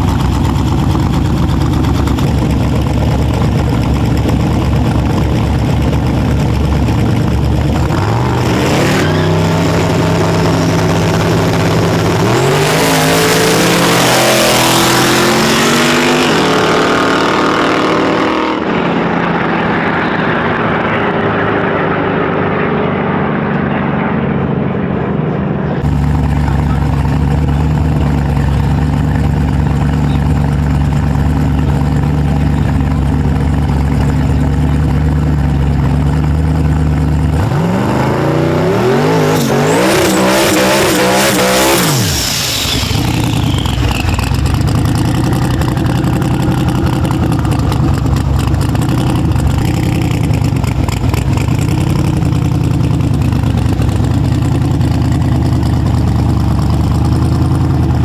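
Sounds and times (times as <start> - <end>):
car engine idling: 0.0 - 8.4, 9.4 - 37.8, 39.5 - 58.0
car engines revving: 0.0 - 58.0.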